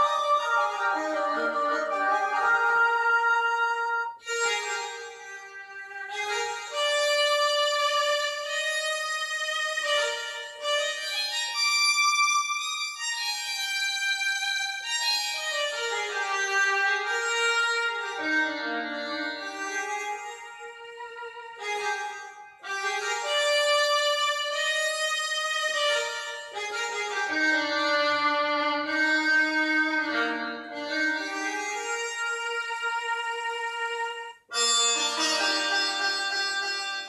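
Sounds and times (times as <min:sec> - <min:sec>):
synthesizer bowed-string melody: 0:00.0 - 0:37.0.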